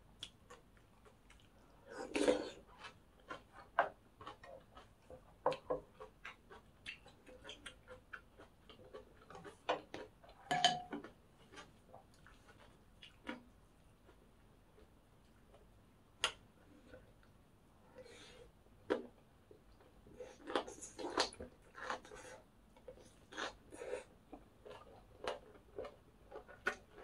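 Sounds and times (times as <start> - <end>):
chewing crunchy food: 0.2 - 27.0.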